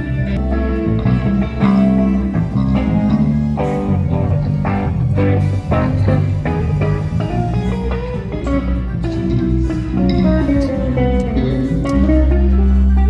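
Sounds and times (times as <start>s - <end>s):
plucked guitar music with bass: 0.0s - 13.0s.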